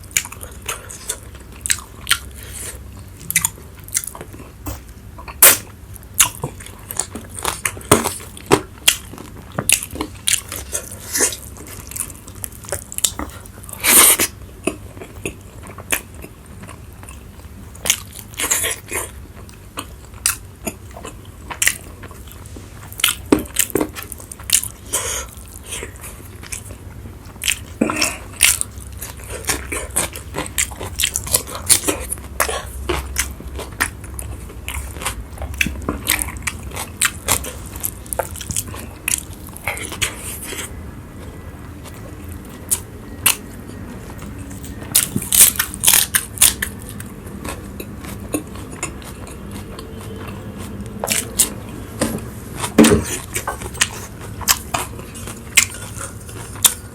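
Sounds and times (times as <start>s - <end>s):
chewing and crunching: 0.0s - 56.9s.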